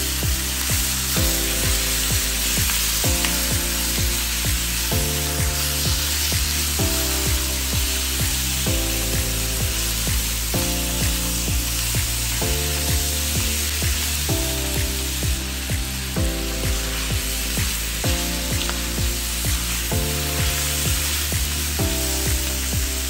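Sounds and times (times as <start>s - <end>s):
background music with a beat: 0.0s - 23.0s
food sizzling in a wok: 0.0s - 23.0s.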